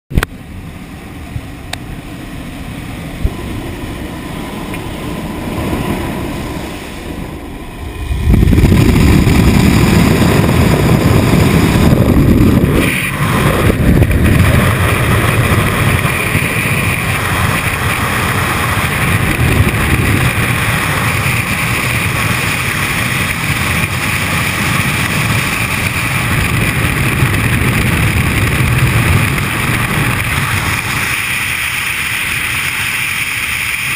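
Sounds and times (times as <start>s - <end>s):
airplane engine noise: 0.1s - 33.9s
loud wind rush: 0.1s - 33.9s.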